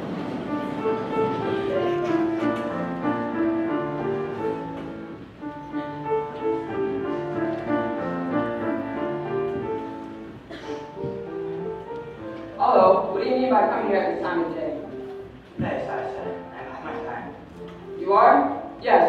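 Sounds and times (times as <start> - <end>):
piano-like keyboard melody: 0.0 - 19.0.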